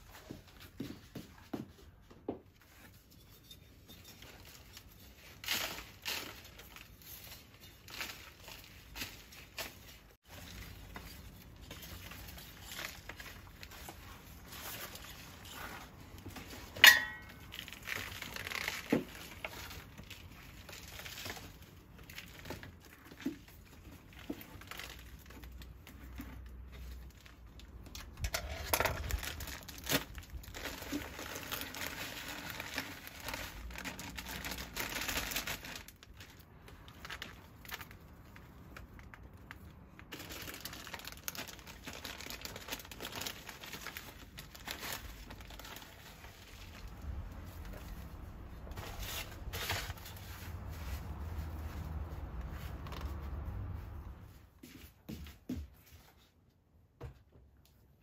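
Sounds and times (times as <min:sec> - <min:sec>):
soil and plastic rustling: 0:00.0 - 0:56.4.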